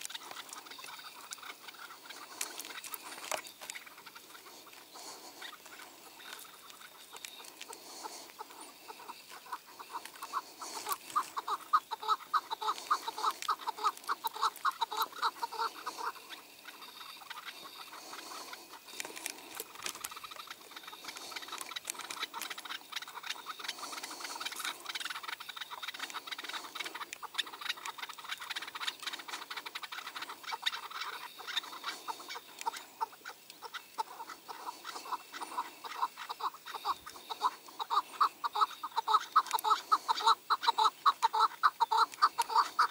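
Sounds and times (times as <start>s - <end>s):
small clicks and rustling: 0.0s - 37.4s
partridges clucking and calling: 0.0s - 42.9s.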